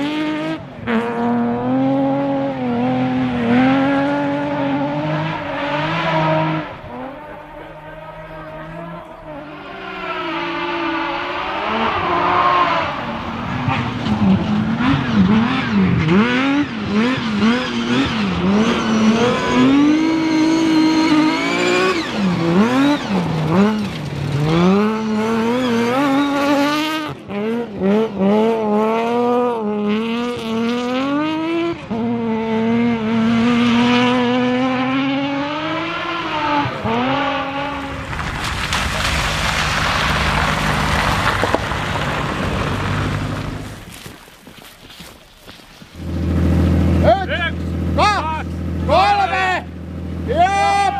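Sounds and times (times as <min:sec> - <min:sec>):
rally car engine revving: 0:00.0 - 0:44.0, 0:46.0 - 0:50.9.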